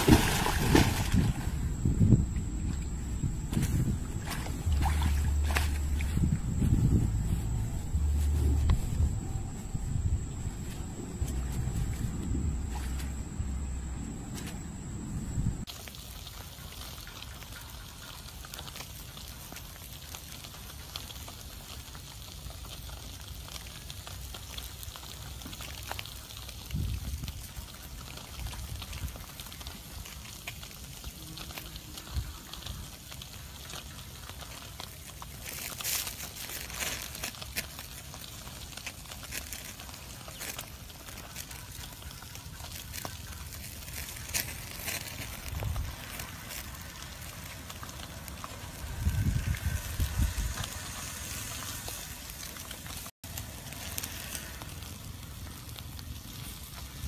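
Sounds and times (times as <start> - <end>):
wood fire crackling and hissing: 0.0 - 57.0.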